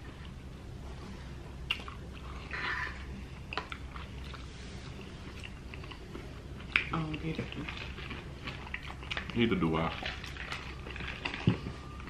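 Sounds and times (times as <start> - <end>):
chewing with wet mouth sounds: 0.0 - 12.0.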